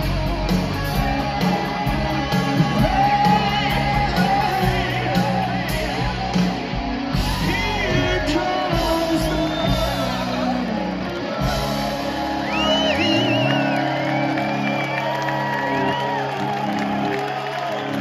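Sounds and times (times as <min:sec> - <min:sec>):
crowd shouting and whooping: 0:00.0 - 0:18.0
live rock band with vocals: 0:00.0 - 0:18.0.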